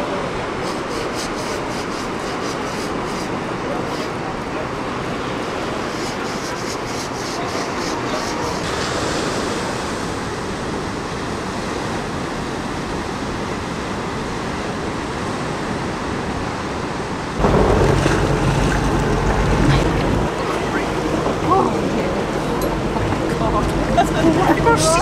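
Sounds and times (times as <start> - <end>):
boat engine hum: 0.0 - 25.0
water and wind rushing: 0.0 - 25.0.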